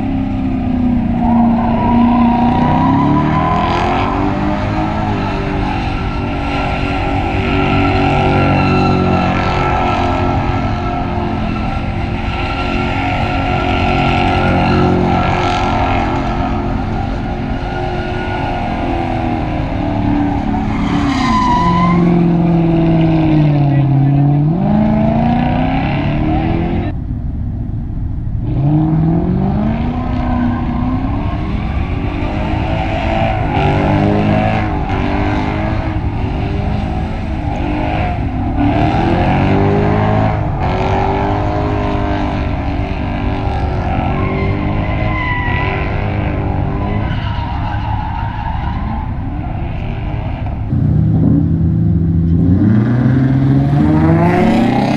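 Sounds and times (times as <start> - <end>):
tyres squealing: 0.0 - 24.2, 29.8 - 50.7
car engine at high revs: 0.0 - 54.9.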